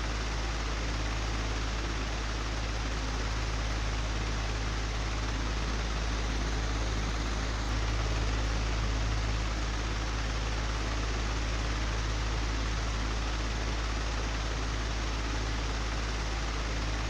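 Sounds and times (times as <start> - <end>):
electric fan whirring: 0.0 - 17.0.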